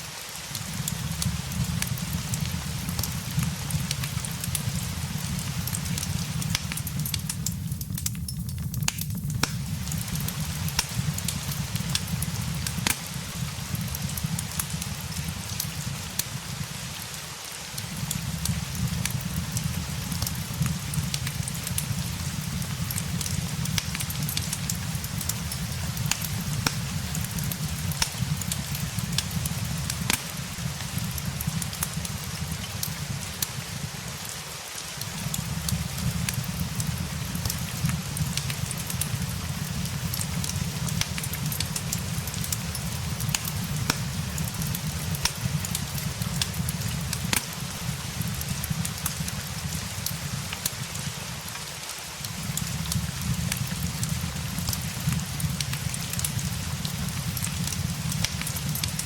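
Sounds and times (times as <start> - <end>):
fireplace crackling: 0.0 - 59.0
rain hissing: 0.0 - 59.0.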